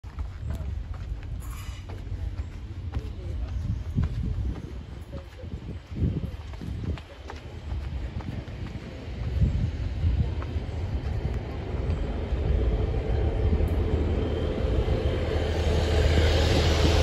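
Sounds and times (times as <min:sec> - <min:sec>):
diesel train engines rumbling: 0:00.0 - 0:17.0.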